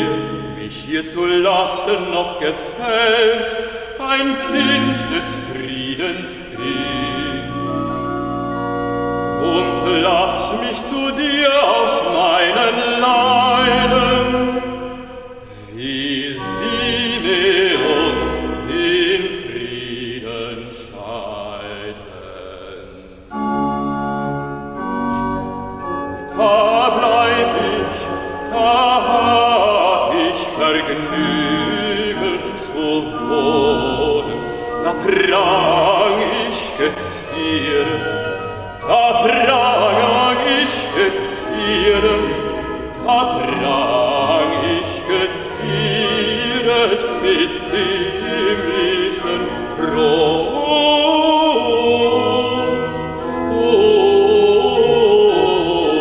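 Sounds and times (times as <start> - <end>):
bass voice singing: 0.0 - 7.8, 9.4 - 23.2, 26.3 - 56.0
organ playing: 0.0 - 56.0.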